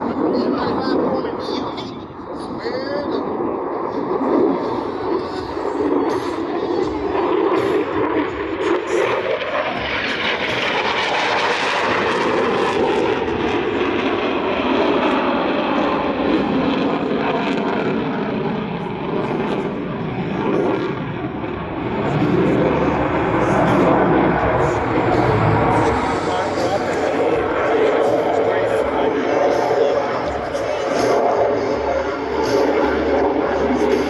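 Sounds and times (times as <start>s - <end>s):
jet engine flyby: 0.0s - 34.0s.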